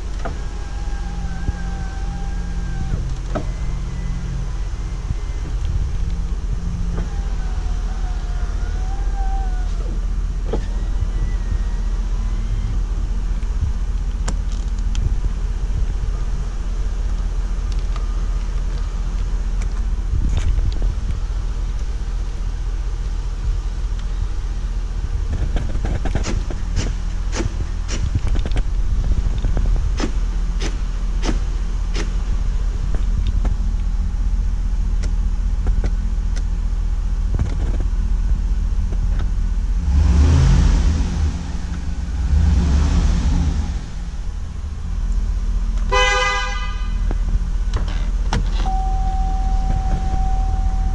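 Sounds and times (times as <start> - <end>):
car engine running: 0.0 - 50.9.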